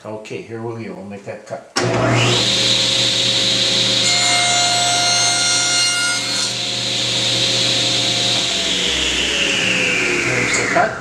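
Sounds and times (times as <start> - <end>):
table saw cutting wood: 1.8 - 11.0.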